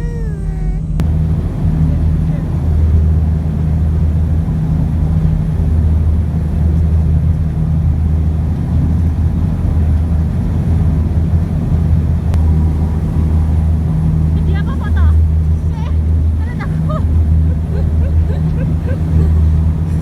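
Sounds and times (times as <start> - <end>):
ship engine droning: 0.0 - 20.0.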